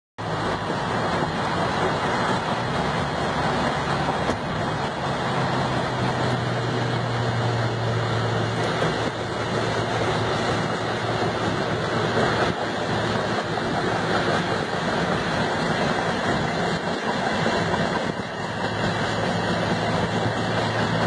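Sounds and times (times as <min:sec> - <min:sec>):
car road and wind noise: 0:00.2 - 0:21.0.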